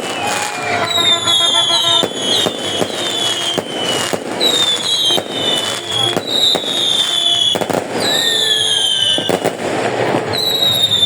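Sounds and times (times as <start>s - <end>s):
fireworks whistles sliding down: 0.0s - 9.5s, 10.2s - 11.0s
fireworks bangs and crackles: 0.0s - 11.0s.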